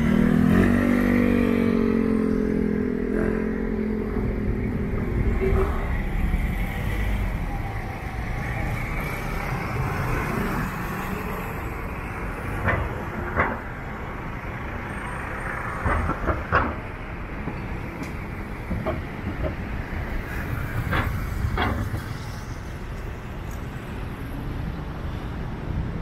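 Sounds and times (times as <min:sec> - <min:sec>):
vehicles passing: 0:00.0 - 0:26.0.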